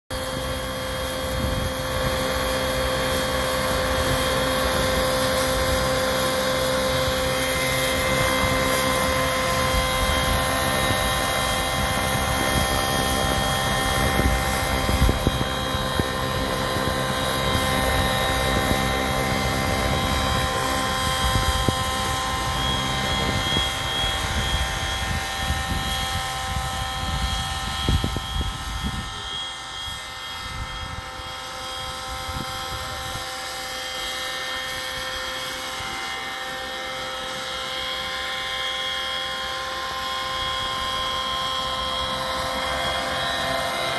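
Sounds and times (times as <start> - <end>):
model helicopter whine: 0.1 - 43.9.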